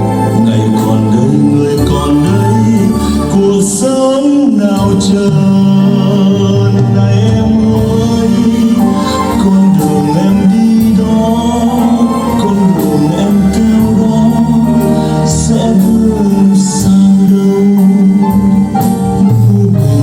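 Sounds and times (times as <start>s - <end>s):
song through speakers: 0.0s - 20.0s
steady bass line: 0.0s - 20.0s.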